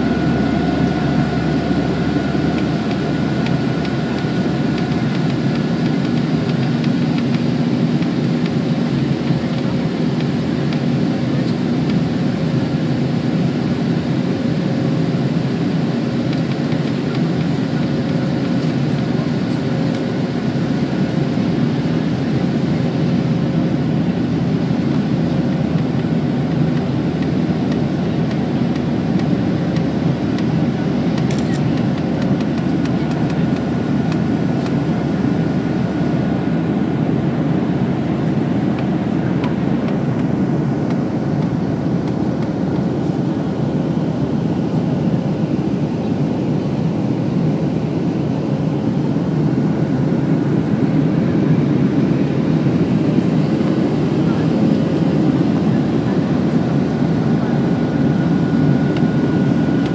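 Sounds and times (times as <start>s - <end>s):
airplane cabin engine noise: 0.0s - 59.9s.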